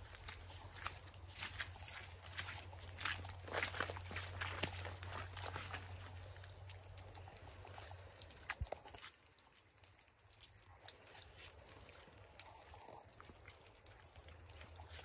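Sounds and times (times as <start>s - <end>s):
faint crackles and clicks: 0.1s - 15.0s.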